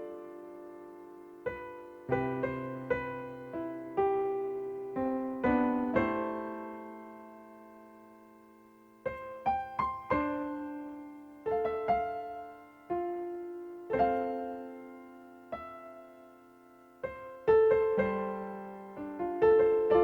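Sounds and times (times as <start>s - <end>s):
gentle solo piano: 0.0s - 20.0s.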